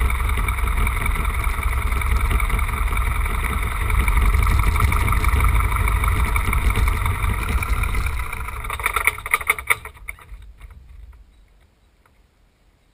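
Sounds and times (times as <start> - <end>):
aircraft engine running: 0.0 - 11.6
propeller winding down: 0.0 - 11.7.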